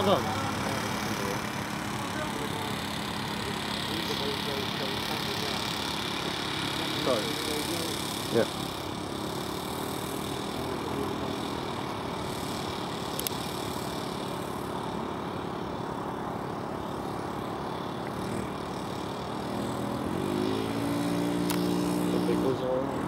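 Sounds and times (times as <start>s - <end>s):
model aircraft engine running: 0.0s - 23.0s.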